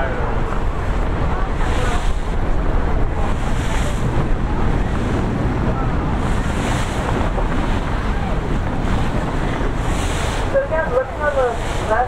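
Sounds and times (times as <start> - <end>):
choppy sea waves: 0.0 - 12.0
wind buffeting microphone: 0.0 - 12.0.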